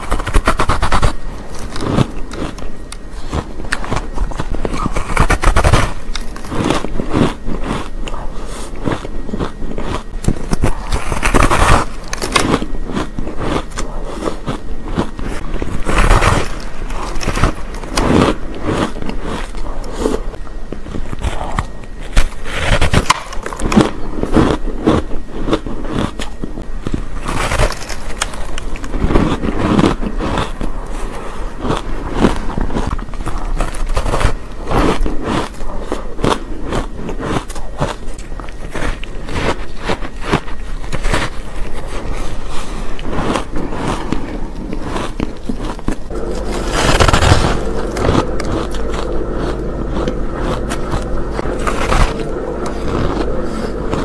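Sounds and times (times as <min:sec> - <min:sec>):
crunchy cake chewing: 0:00.0 - 0:54.0.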